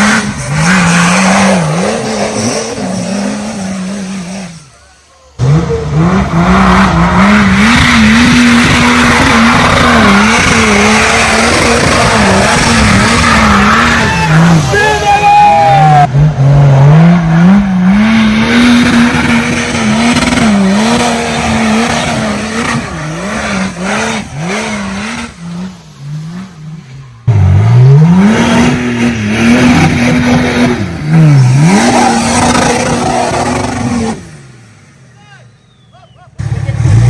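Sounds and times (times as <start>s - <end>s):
engine revving hard: 0.0s - 4.8s, 5.4s - 34.8s, 36.4s - 37.0s.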